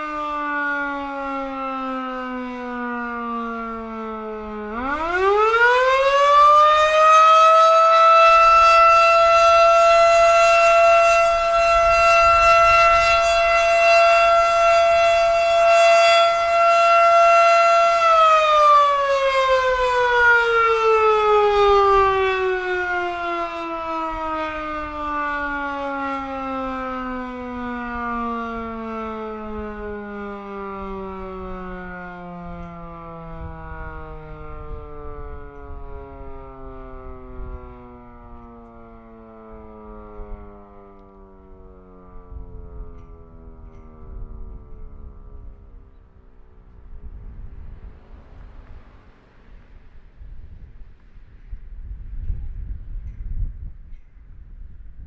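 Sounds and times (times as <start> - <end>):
mechanical fire siren wailing: 0.0 - 51.0.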